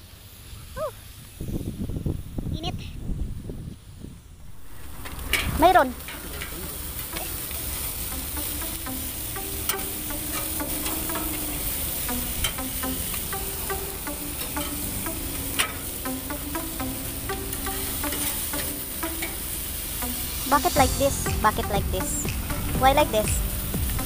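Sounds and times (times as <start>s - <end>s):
meat sizzling on a grill: 0.0s - 2.6s, 3.9s - 24.0s
fat crackling and popping: 4.4s - 24.0s.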